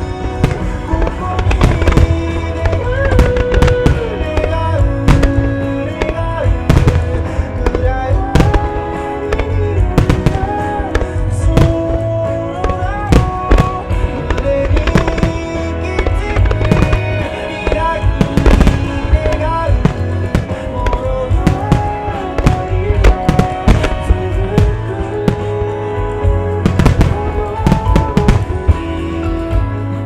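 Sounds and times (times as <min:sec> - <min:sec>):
fireworks bursting with sharp bangs: 0:00.0 - 0:30.0
loud music with steady bass: 0:00.0 - 0:30.0.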